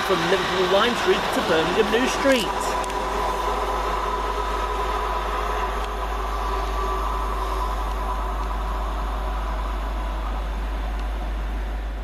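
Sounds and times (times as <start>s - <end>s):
electric train whine: 0.0s - 12.0s.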